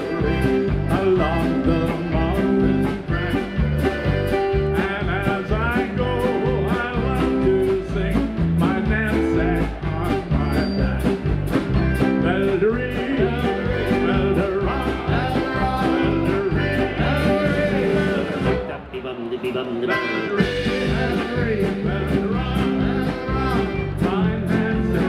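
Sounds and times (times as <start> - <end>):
man singing: 0.0 - 3.6, 4.3 - 25.0
polka band playing: 0.0 - 25.0.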